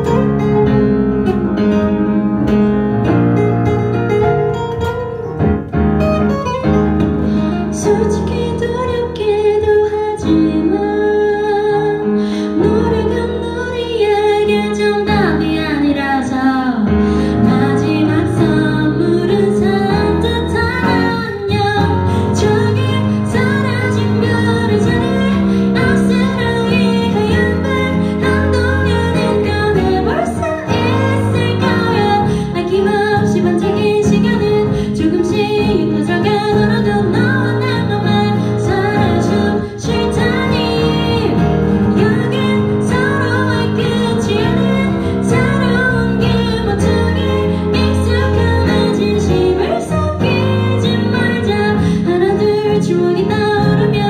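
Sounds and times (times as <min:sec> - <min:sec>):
piano accompaniment: 0:00.0 - 0:54.0
woman singing a slow ballad: 0:07.4 - 0:54.0.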